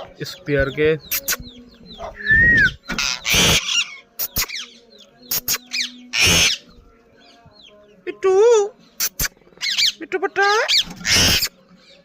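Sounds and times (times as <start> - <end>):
parakeet chicks begging calls: 0.0 - 12.0.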